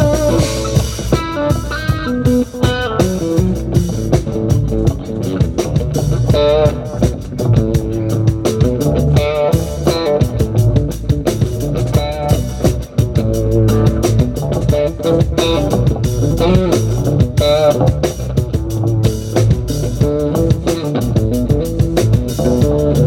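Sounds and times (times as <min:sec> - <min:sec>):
drum kit: 0:00.0 - 0:23.0
electric bass: 0:00.0 - 0:23.0
lead guitar with bent notes: 0:00.0 - 0:23.0.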